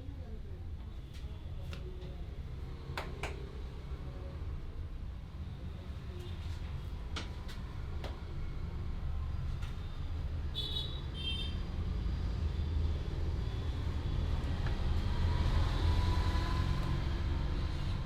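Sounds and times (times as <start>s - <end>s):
road traffic rumble: 0.2s - 18.0s.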